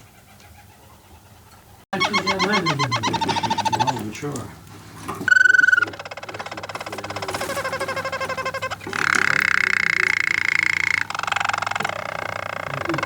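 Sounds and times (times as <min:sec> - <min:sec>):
canary singing trills: 0:00.5 - 0:04.6, 0:05.3 - 0:13.0.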